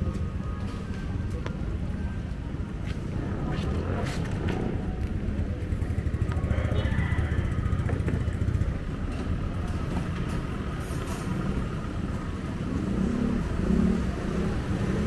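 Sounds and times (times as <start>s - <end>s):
cars and motorcycles passing: 0.0s - 15.0s.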